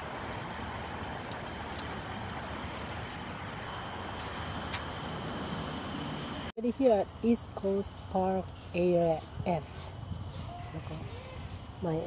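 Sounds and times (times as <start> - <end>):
faint high steady tones: 0.0 - 12.0.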